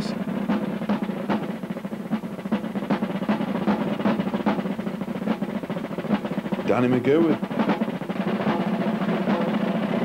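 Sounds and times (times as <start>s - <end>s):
drums playing fast beat: 0.0s - 10.0s.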